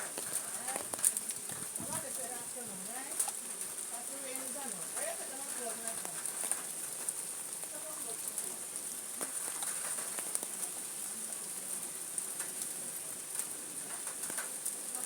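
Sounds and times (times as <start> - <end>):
raindrops tapping on surfaces: 0.0 - 15.0
steady rain hissing: 0.0 - 15.0.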